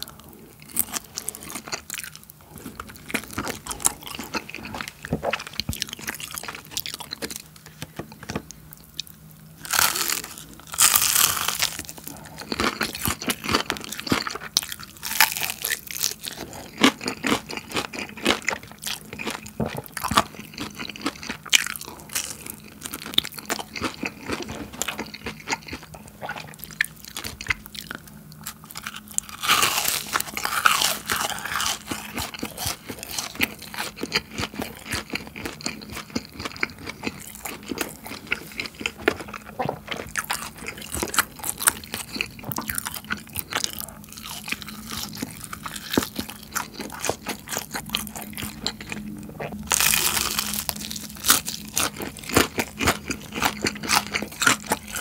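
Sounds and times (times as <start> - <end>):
crispy chicken crunching: 0.0 - 55.0
wet chewing: 0.0 - 55.0.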